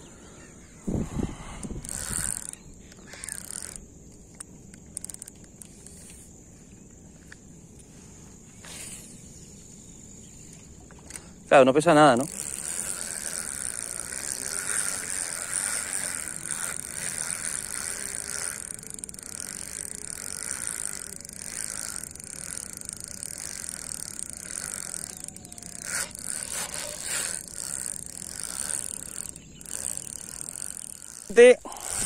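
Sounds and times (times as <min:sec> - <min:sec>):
fishing reel whirring: 0:00.0 - 0:32.0
sharp reel clicks: 0:01.4 - 0:07.9, 0:10.4 - 0:32.0.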